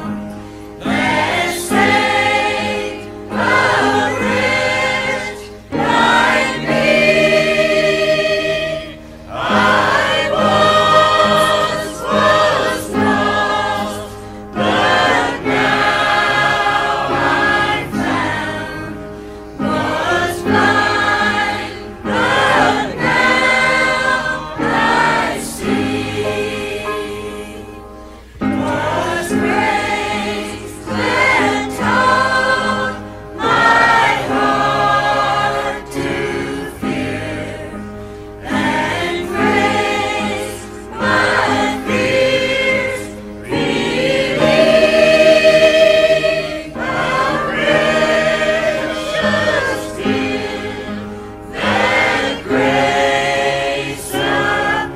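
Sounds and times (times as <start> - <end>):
choir singing: 0.0 - 54.9.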